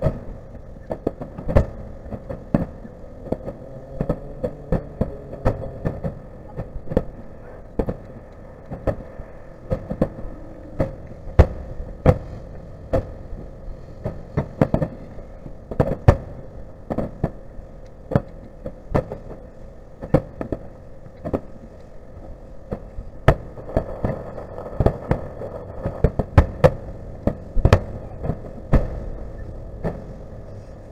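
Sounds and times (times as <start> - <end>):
fireworks bangs: 0.0 - 30.9
low rumble: 0.0 - 30.9.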